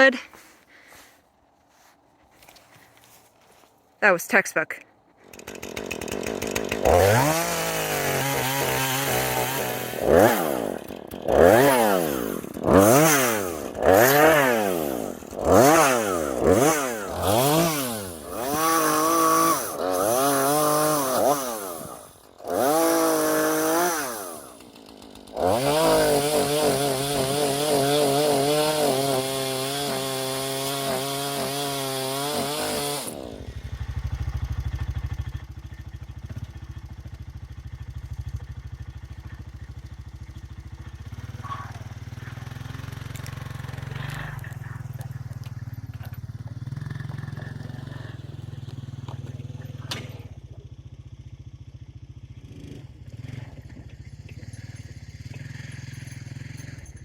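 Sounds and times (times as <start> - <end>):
chainsaw engine revving: 5.2 - 57.0.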